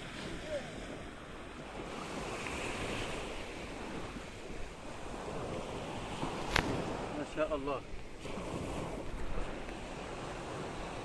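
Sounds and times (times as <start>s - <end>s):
waves washing on sandy beach: 0.0s - 11.0s
wind on microphone: 0.0s - 11.0s.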